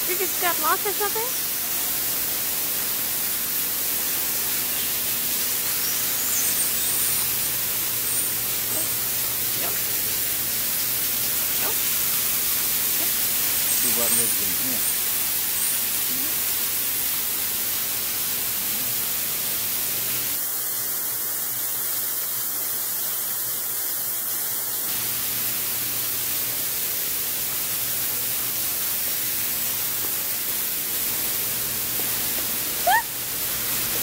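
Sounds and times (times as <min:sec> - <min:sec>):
waterfall splashing on stone: 0:00.0 - 0:34.0.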